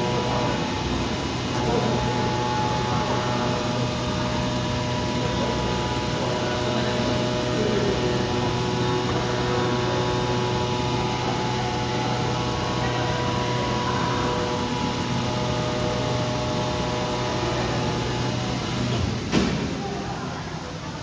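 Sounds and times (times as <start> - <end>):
cutting machine humming and whining: 0.0 - 19.4.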